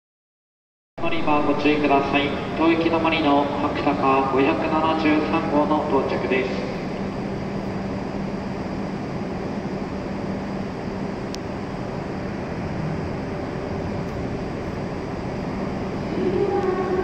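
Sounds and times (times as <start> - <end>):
train rumbling: 1.0 - 17.0
train whining tone: 1.0 - 17.0.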